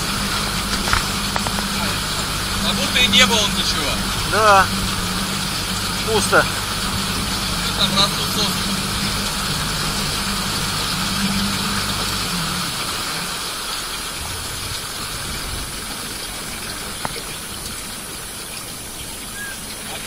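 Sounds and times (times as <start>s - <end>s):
motorboat engine running: 0.0s - 20.0s
water rushing along hull: 0.0s - 20.0s.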